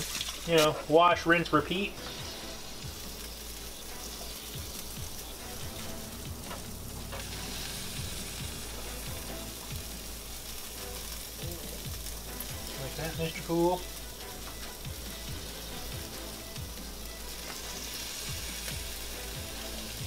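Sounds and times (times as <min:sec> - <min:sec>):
meat sizzling in a pan: 0:00.0 - 0:20.0.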